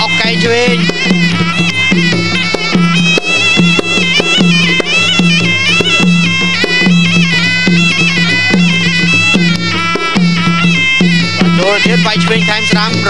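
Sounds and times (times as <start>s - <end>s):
hand drums beat: 0.0s - 13.0s
nasal reed pipe melody: 0.0s - 13.0s.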